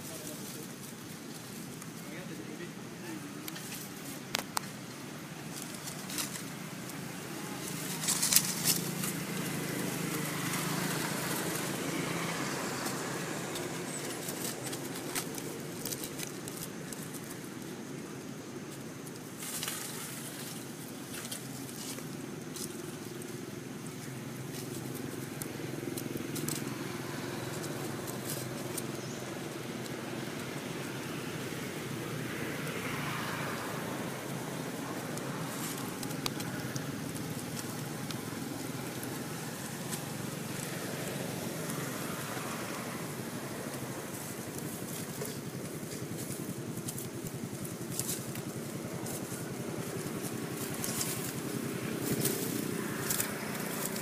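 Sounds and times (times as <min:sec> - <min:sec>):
dry leaves crackling and rustling: 0:00.0 - 0:54.0
low outdoor background hum: 0:00.0 - 0:54.0.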